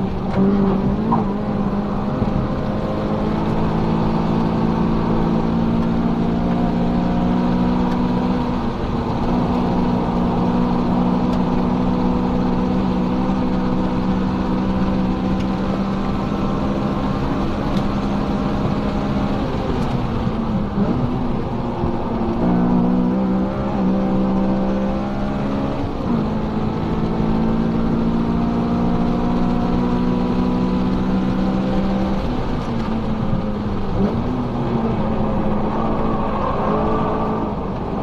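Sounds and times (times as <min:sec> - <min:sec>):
car engine at speed: 0:00.0 - 0:38.0
road and wind noise: 0:00.0 - 0:38.0.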